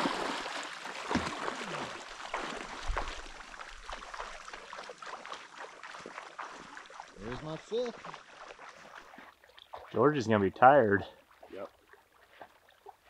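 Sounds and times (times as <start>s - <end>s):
dog swimming and splashing water: 0.0s - 10.2s, 11.0s - 13.0s.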